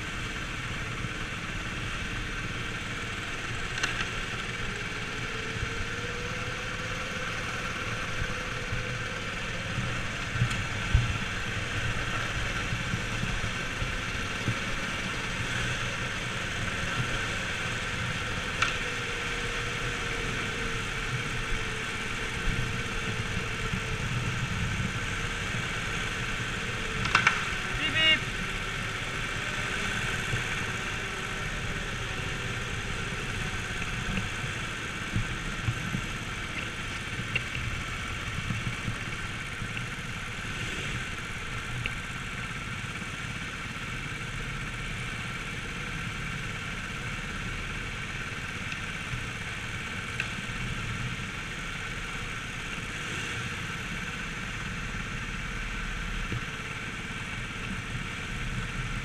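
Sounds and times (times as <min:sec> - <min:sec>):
go-kart motor drone: 0:00.0 - 0:59.0.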